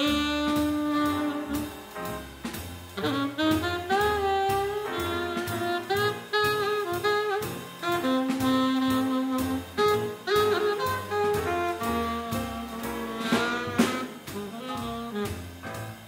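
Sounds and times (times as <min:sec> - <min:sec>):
saxophone melody: 0:00.0 - 0:02.2, 0:03.0 - 0:16.0
drums keeping beat: 0:00.0 - 0:16.0
piano: 0:00.0 - 0:16.0
upright bass: 0:00.0 - 0:16.0.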